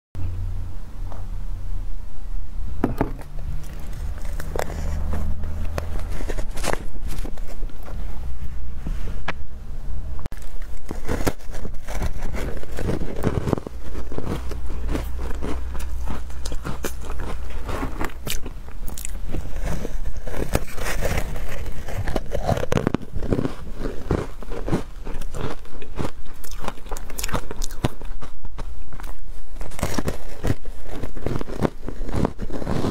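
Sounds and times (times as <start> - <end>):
ice crunching between teeth: 3.2 - 8.0, 10.4 - 32.9.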